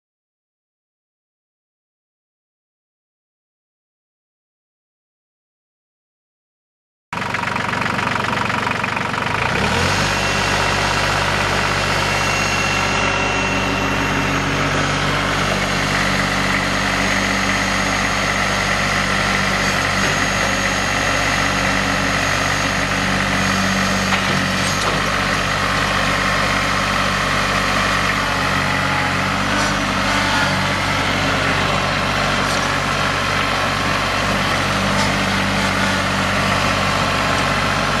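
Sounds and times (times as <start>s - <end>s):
tractor diesel engine running: 7.2s - 38.0s.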